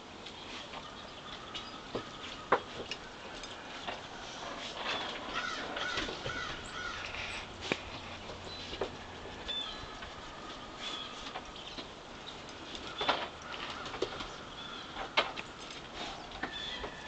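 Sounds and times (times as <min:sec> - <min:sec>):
birds calling: 0:00.0 - 0:17.0
harsh bird calls: 0:00.4 - 0:17.0.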